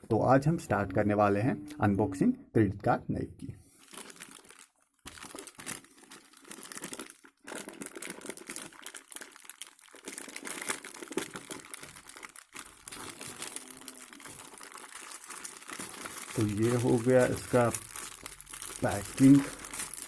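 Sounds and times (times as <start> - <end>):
packaging crinkling and tearing: 3.7 - 20.0.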